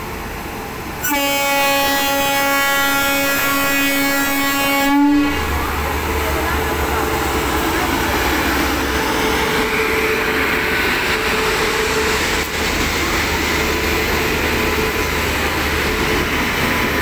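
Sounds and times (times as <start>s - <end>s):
locomotive hum: 0.0s - 17.0s
train running noise: 0.0s - 17.0s.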